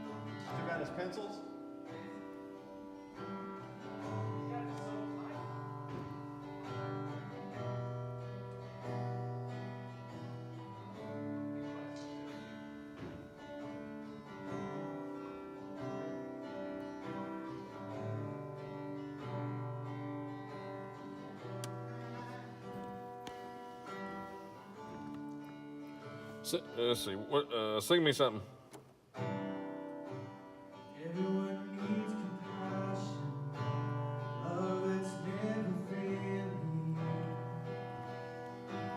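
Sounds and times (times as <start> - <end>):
acoustic guitar strumming chords: 0.0 - 38.9.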